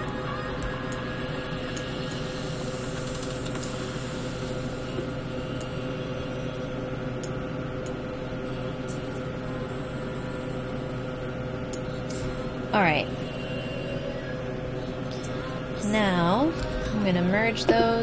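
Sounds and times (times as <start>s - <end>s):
computer hum and fan noise: 0.0s - 18.0s.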